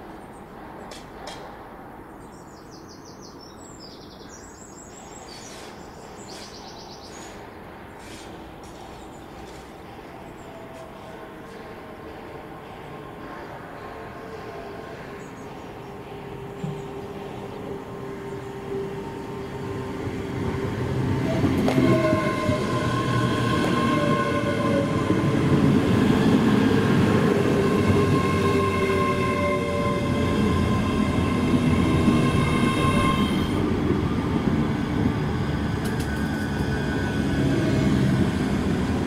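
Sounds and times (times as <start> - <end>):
train rumble and wheel noise: 0.0 - 39.0.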